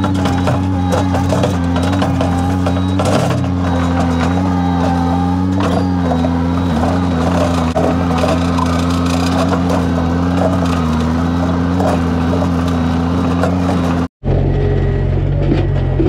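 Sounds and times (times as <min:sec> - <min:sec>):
bucket scraping through dirt: 0:00.0 - 0:14.1
skid steer engine running: 0:00.0 - 0:16.0.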